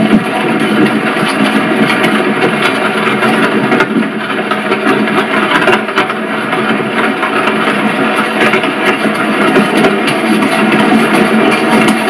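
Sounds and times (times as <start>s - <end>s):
horse-drawn carriage rumbling: 0.0s - 12.0s.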